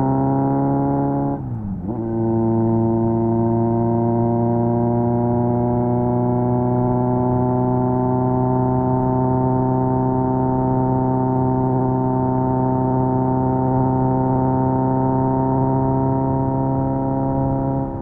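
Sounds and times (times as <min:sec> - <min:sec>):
motorcycle engine cruising: 0:00.0 - 0:18.0.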